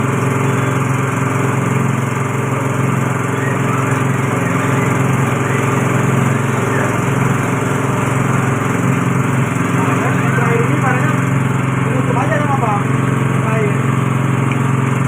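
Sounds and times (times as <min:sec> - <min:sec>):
press machine droning: 0:00.0 - 0:15.0.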